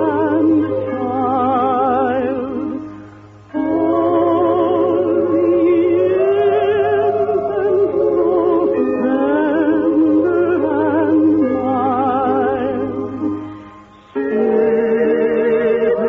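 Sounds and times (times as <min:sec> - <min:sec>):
operatic singing with orchestra: 0:00.0 - 0:16.0.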